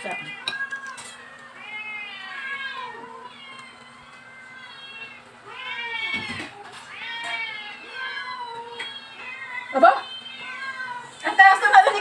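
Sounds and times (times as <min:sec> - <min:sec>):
cat meowing: 0:00.0 - 0:11.4.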